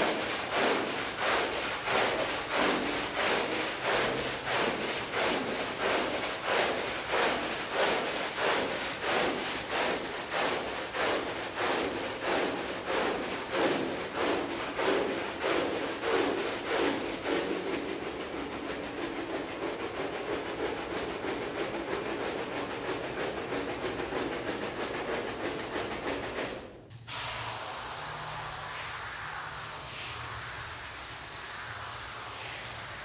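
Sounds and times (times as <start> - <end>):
brush scrubbing a rug: 0.0 - 26.6.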